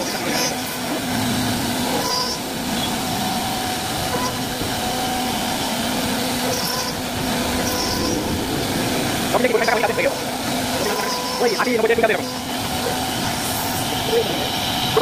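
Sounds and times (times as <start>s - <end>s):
wood router cutting: 0.0s - 15.0s.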